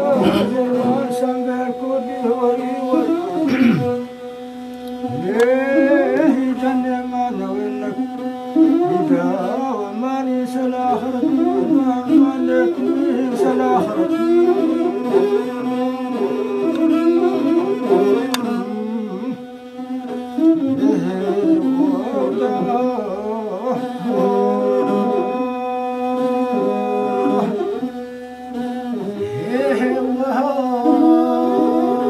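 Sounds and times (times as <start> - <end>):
bowed fiddle melody: 0.0 - 32.0.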